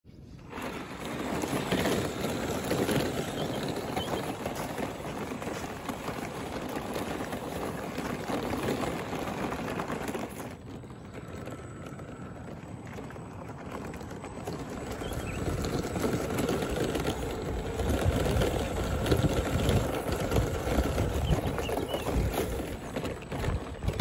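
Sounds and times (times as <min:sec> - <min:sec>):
tyres crunching on gravel: 0:00.2 - 0:24.0.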